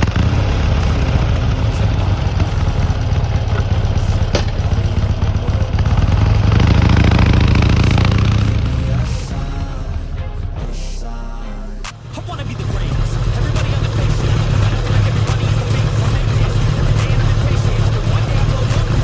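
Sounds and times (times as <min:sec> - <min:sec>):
motorcycle engine idling: 0:00.0 - 0:10.6, 0:12.0 - 0:19.0.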